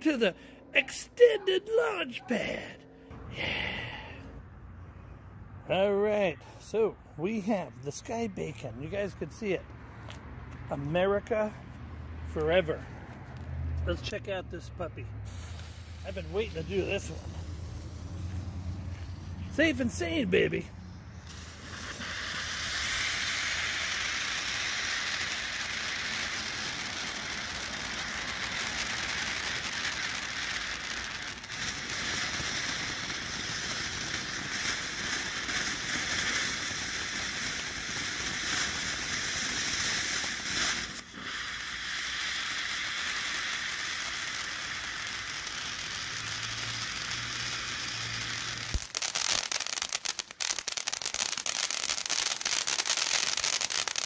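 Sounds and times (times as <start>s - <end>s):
firework dense crackling: 0.0s - 4.2s, 12.3s - 54.0s
firework fountain hissing: 0.0s - 4.2s, 13.8s - 54.0s.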